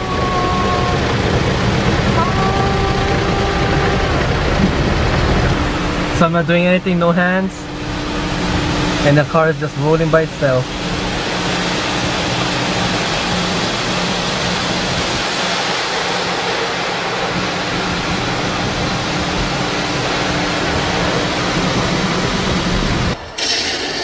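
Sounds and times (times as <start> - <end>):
low hum: 0.0 - 24.0
water jets drumming on car: 0.0 - 24.0.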